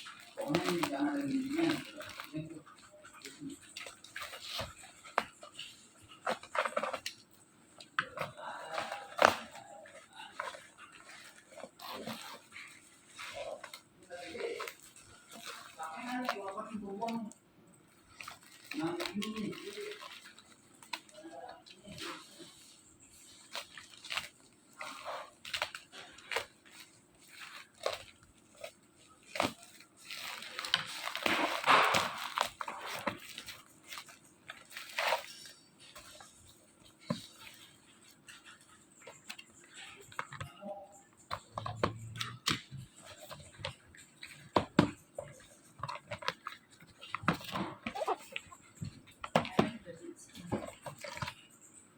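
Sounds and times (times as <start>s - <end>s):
rustling: 0.0s - 51.9s.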